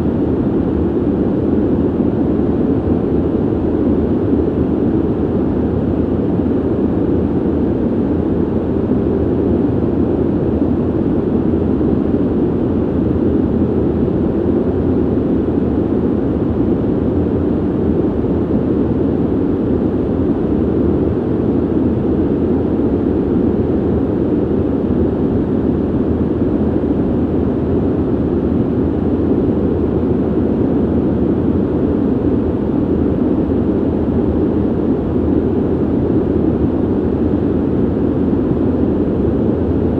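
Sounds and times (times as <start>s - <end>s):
ventilation air rushing: 0.0s - 39.9s.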